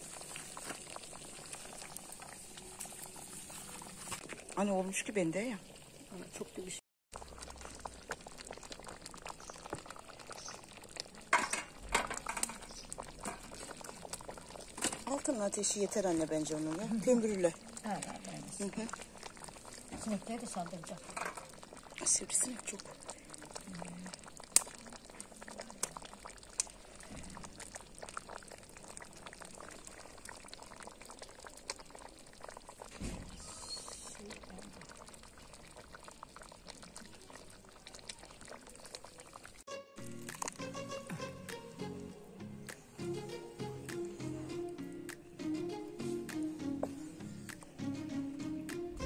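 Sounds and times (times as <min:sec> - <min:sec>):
jam bubbling and popping: 0:00.0 - 0:47.8.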